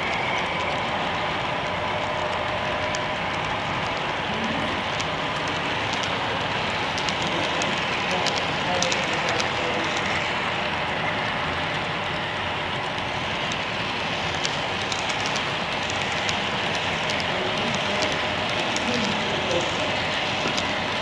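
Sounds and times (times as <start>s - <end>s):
wheels clicking over rail joints: 0.0s - 12.0s, 12.6s - 21.0s
model train wheels hissing on rails: 0.0s - 21.0s.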